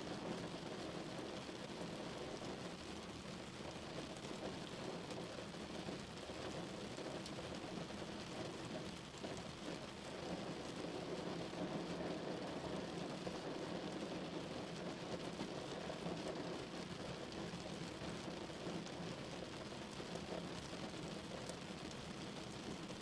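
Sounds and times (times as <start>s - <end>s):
heavy rain drumming on a car: 0.0s - 23.0s.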